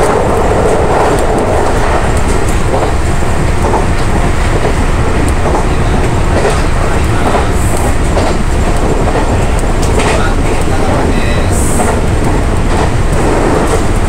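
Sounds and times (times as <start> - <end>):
train wheels rumbling on rails: 0.0 - 14.0
wheels clacking over rail joints: 0.0 - 14.0.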